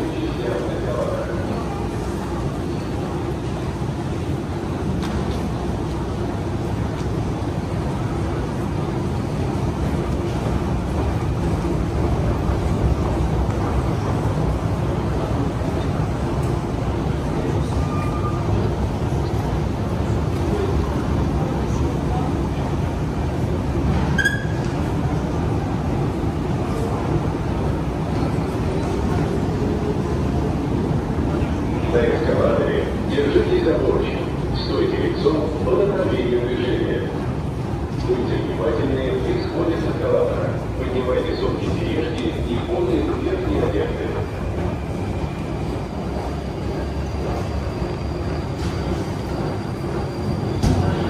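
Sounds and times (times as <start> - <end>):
mechanical drone of escalators: 0.0 - 51.0.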